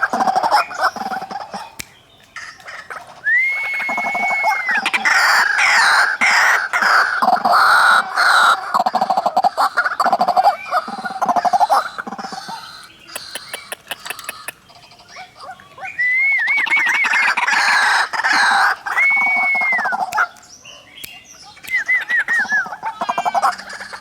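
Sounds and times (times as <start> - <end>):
waterhens calling: 0.0 - 20.4, 21.5 - 24.0.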